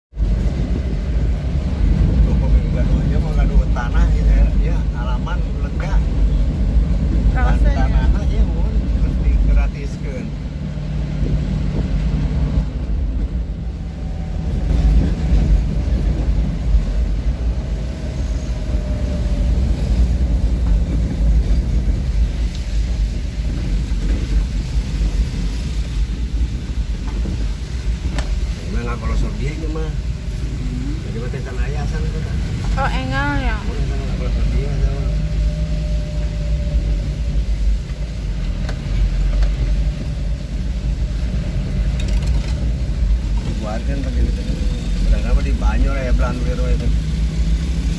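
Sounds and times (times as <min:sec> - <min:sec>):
vehicle low rumble: 0:00.1 - 0:47.9.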